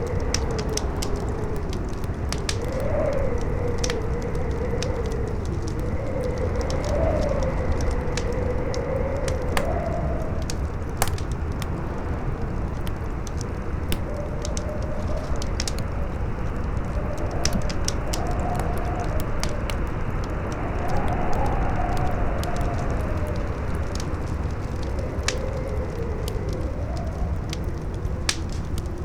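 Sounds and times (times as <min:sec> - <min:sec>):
campfire crackling and popping: 0:00.0 - 0:29.0
howling wind: 0:00.0 - 0:29.0
low rumble of wind: 0:00.0 - 0:29.0.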